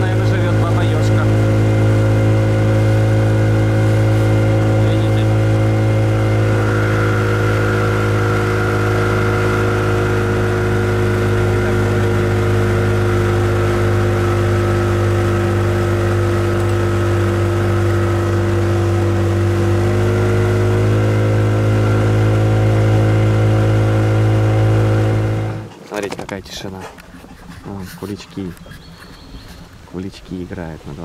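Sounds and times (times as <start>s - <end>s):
boat motor running: 0.0s - 31.0s.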